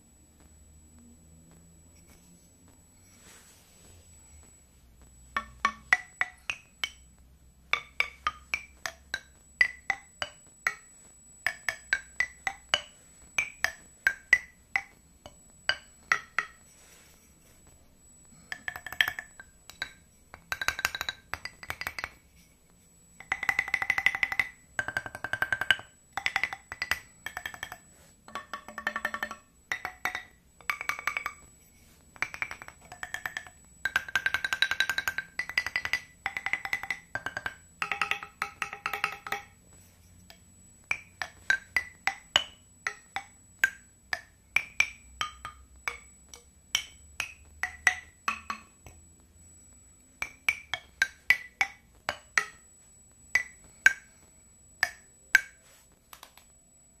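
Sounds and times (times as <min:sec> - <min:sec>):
wooden bars struck like xylophone: 0:05.0 - 0:22.5, 0:23.1 - 0:56.3.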